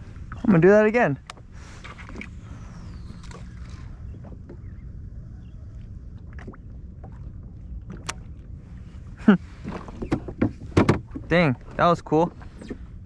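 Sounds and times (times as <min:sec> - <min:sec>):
water around watercraft: 0:00.0 - 0:13.0
wind: 0:00.0 - 0:13.0.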